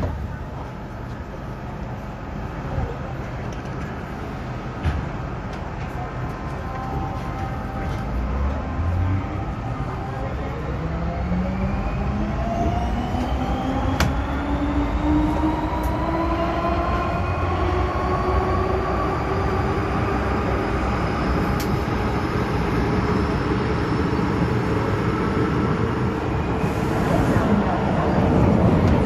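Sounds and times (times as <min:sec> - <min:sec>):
wheel and track rumble: 0:00.0 - 0:29.0.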